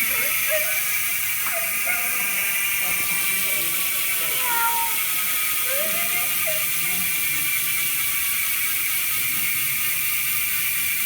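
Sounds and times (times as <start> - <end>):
bicycle hub freewheel buzzing: 0.0 - 11.0.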